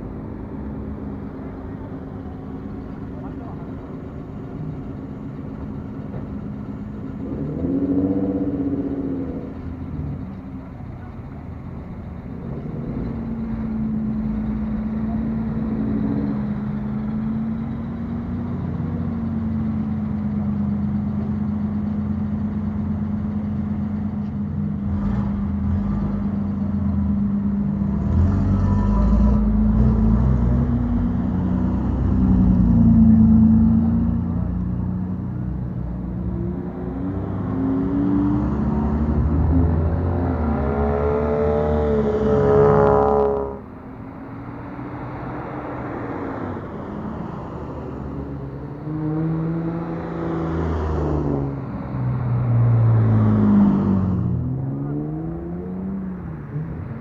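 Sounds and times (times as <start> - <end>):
car engines with loud exhausts: 0.0 - 57.0
engine revving: 0.9 - 23.3, 24.0 - 57.0.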